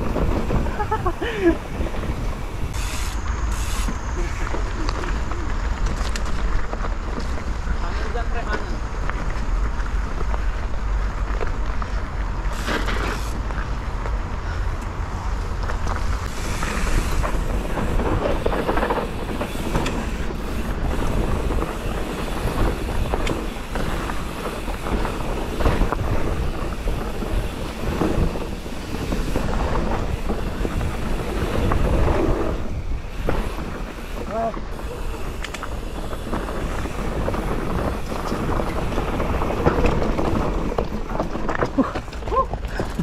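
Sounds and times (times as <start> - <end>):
bike rattling over dirt trail: 0.0 - 43.0
wind rumble on microphone: 0.0 - 43.0.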